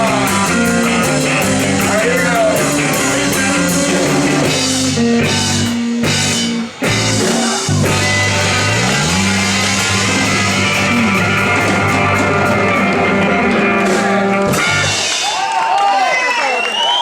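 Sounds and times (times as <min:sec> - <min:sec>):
bass sliding upward: 0:00.0 - 0:15.0
live rock band playing: 0:00.0 - 0:15.4.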